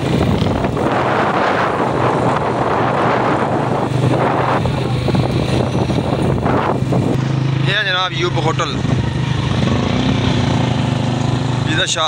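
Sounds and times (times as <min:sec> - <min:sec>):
vehicle engine running: 0:00.0 - 0:12.0
wind and road noise: 0:00.0 - 0:12.0.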